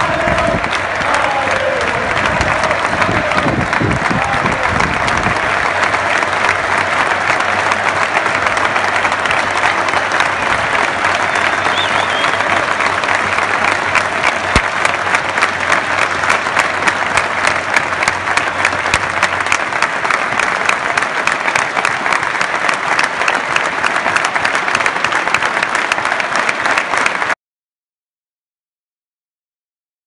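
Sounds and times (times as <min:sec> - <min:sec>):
stadium crowd applauding: 0:00.0 - 0:27.4.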